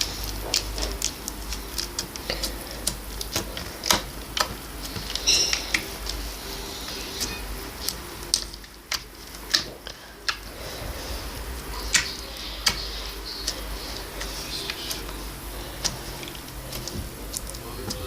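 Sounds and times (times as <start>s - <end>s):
slime clicking: 0.0s - 6.2s, 6.9s - 10.5s, 11.8s - 18.0s.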